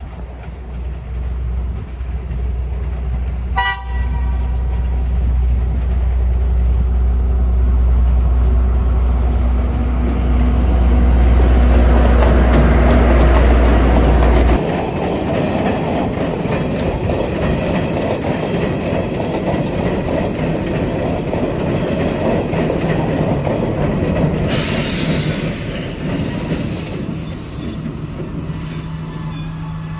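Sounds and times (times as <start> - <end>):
locomotive low drone: 0.0 - 29.9
wagons running over rails: 0.0 - 29.9.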